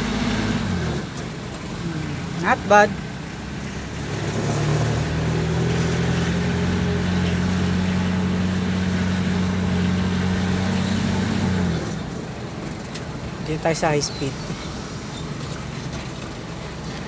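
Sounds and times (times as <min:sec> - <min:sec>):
van engine running: 0:00.0 - 0:17.0.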